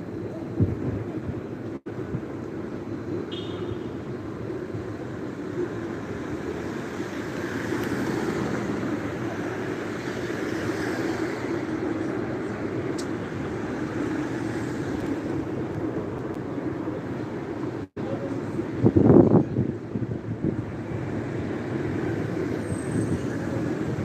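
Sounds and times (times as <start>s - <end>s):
vehicle rumble: 0.0s - 24.0s.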